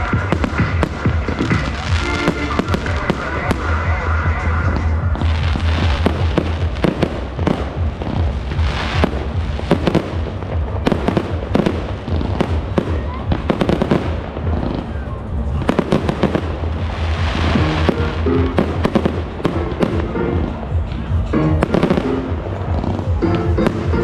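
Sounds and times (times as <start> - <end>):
fireworks bursting: 0.0 - 24.0
fireworks crackle: 0.0 - 24.0
loud music with heavy bass: 0.0 - 24.0.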